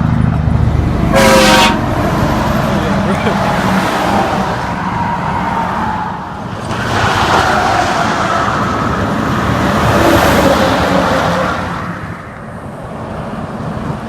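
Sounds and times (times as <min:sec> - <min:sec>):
highway traffic passing: 0:00.0 - 0:14.0.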